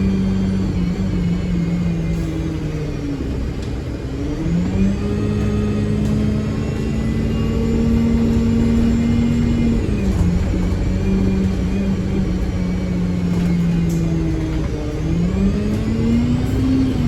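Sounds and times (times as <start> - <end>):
bus diesel engine pulling hard: 0.0 - 17.0.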